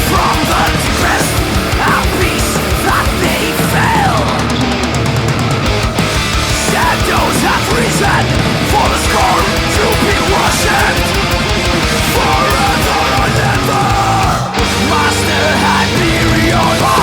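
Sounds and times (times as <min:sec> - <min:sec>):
distorted guitars: 0:00.0 - 0:17.0
pounding drums: 0:00.0 - 0:17.0.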